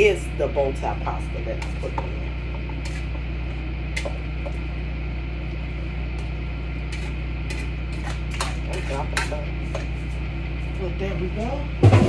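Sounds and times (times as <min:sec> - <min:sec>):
kitchen appliance humming: 0:00.0 - 0:12.0.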